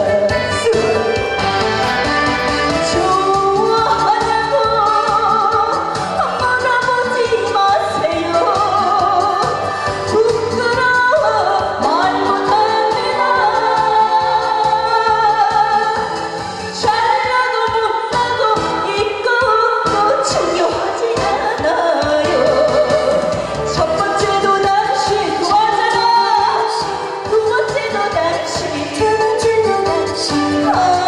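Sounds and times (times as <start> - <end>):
recorded backing music: 0.0 - 31.0
woman singing into microphone: 0.0 - 31.0.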